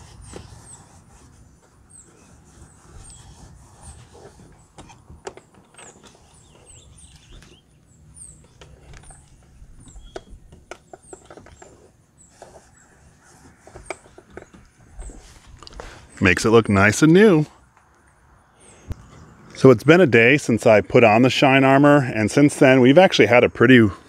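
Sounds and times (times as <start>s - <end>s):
small birds chirping: 0.0s - 19.7s.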